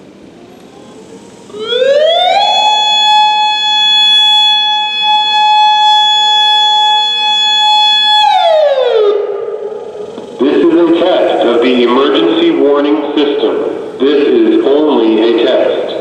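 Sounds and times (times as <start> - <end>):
electronic warning siren: 0.3 - 16.0.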